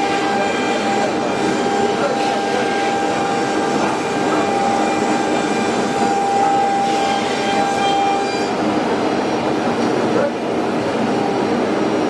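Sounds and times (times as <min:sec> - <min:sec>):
cnc router running: 0:00.0 - 0:12.0.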